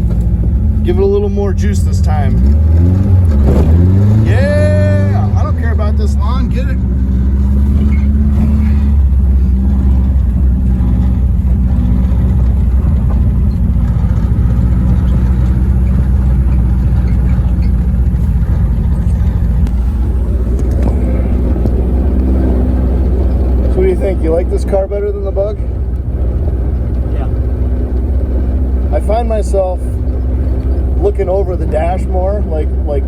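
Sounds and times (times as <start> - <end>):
car engine droning: 0.0 - 33.0.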